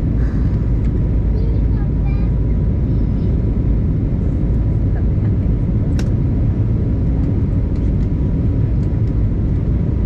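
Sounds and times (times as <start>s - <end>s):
airplane cabin roar: 0.0s - 10.0s.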